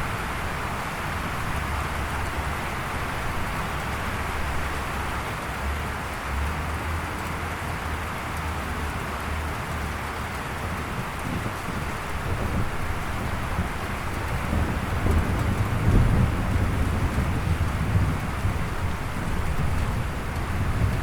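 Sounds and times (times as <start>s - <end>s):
continuous low rumble: 0.0s - 21.0s
gentle rain falling: 0.0s - 21.0s.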